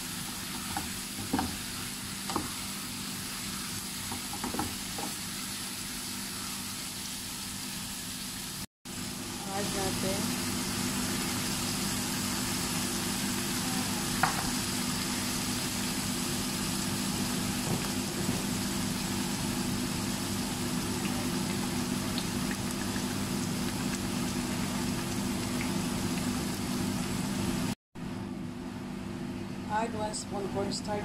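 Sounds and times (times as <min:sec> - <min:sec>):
stir-fry sizzling in a pan: 0:00.0 - 0:27.8.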